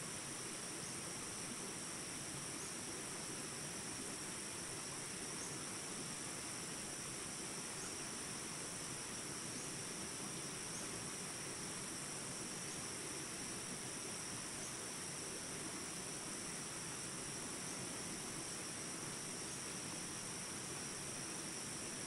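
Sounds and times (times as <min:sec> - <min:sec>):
high insect trill: 0:00.1 - 0:22.0.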